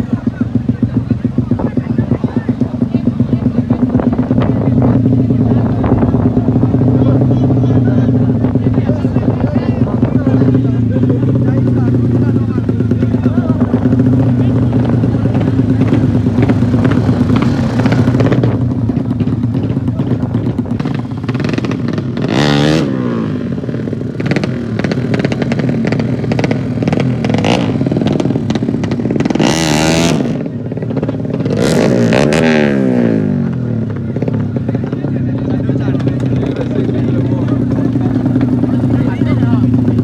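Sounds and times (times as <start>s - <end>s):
motocross bike engine running: 0.0s - 40.0s
motorbikes passing: 0.0s - 40.0s.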